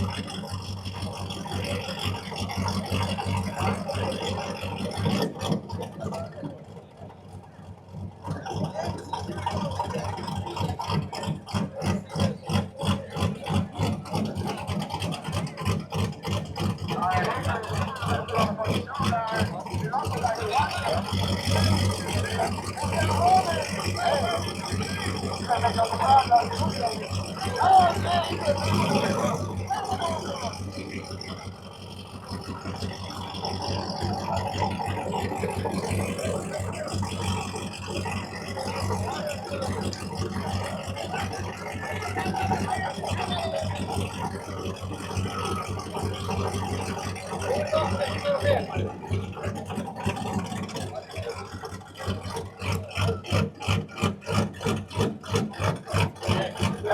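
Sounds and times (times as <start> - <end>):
loud car engine loping: 0.0 - 56.9.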